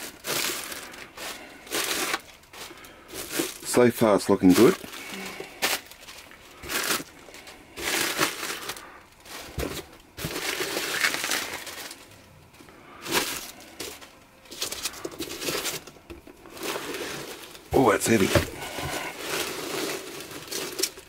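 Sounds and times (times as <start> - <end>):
plastic bags and bubble wrap rustling: 0.0 - 21.0.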